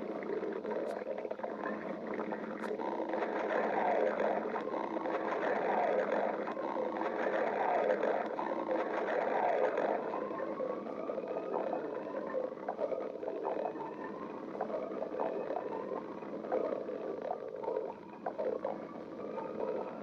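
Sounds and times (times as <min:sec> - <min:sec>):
stomach bubbling gurgles: 0:00.0 - 0:20.0
stomach growling: 0:00.0 - 0:20.0.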